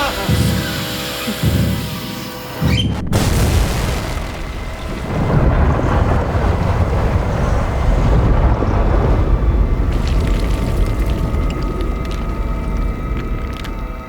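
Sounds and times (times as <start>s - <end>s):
deep rumbling of cave-in: 2.6s - 14.0s.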